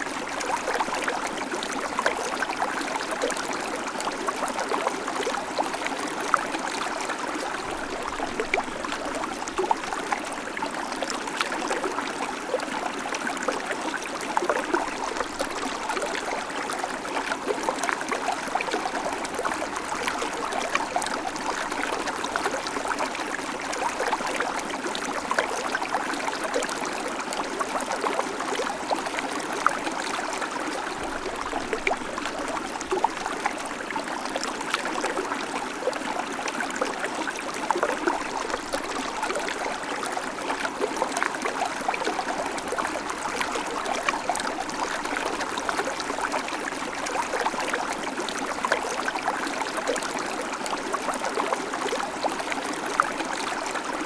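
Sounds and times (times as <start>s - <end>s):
creek water over stones: 0.0s - 54.0s.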